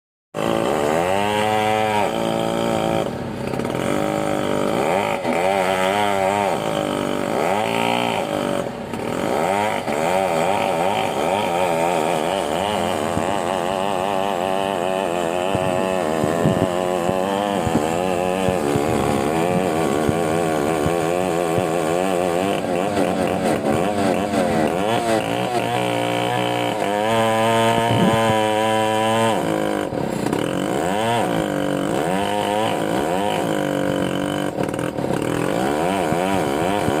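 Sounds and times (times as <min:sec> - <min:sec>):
chainsaw engine revving: 0:00.4 - 0:37.0.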